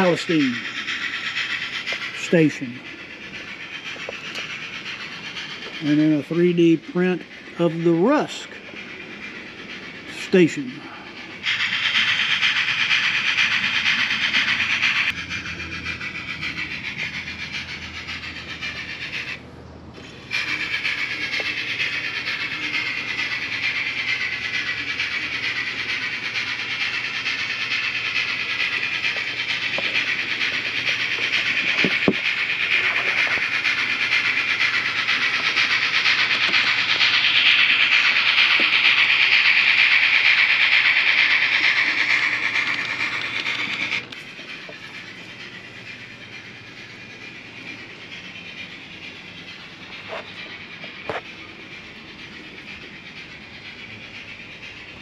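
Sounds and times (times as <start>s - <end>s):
model train whirring on rails: 0.0s - 55.0s.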